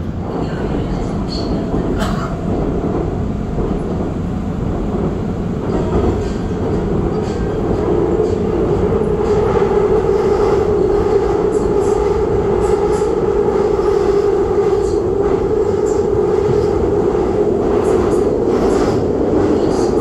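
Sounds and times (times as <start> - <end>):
subway train wheels rumbling: 0.0 - 20.0.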